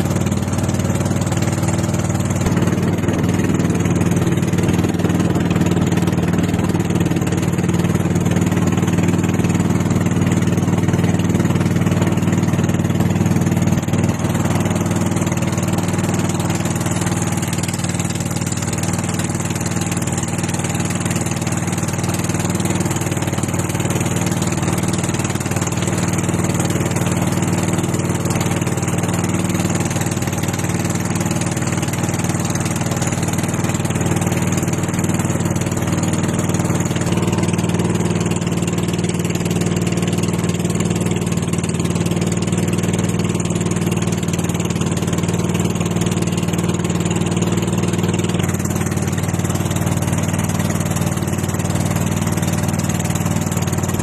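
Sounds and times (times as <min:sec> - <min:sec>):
small boat engine droning: 0:00.0 - 0:54.0.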